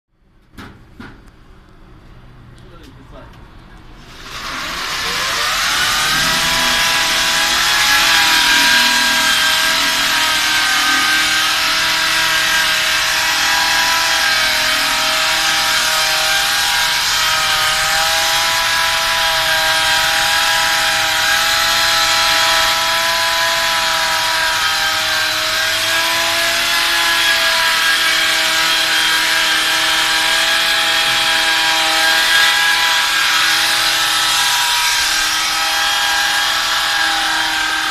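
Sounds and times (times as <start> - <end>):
core drill whining: 4.0 - 37.9
drill grinding through wall: 4.0 - 37.9.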